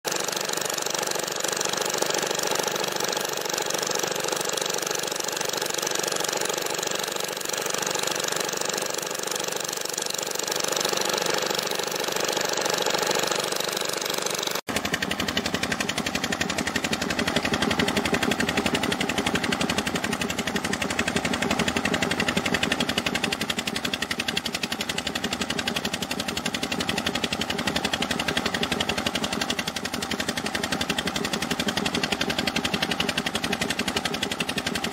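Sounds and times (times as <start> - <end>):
small engine chugging: 0.0 - 34.9.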